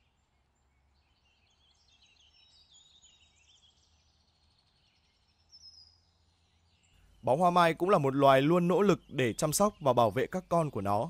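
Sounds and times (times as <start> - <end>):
faint bird chirps: 0.0 - 11.0
high bird chirp: 0.8 - 11.0.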